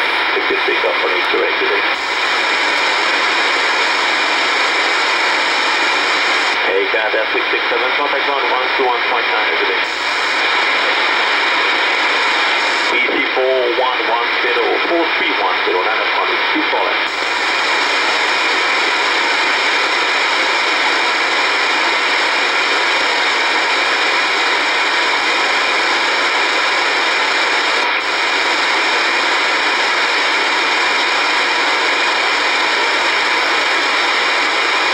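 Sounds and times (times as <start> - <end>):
radio receiver static hiss: 0.0 - 34.9.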